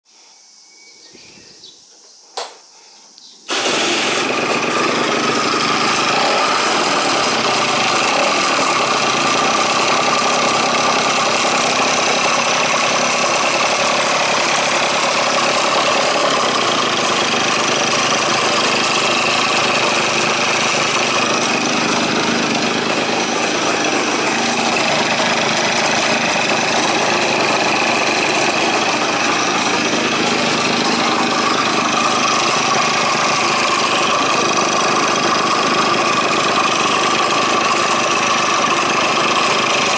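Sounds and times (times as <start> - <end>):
scooter engine running: 3.4 - 39.9.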